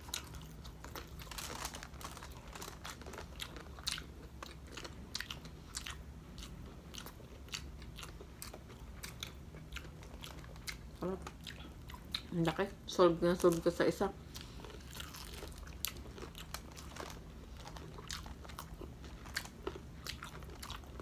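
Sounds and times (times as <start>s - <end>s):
crunchy chewing: 0.0s - 12.3s, 14.2s - 21.0s
steady low hum: 0.0s - 21.0s.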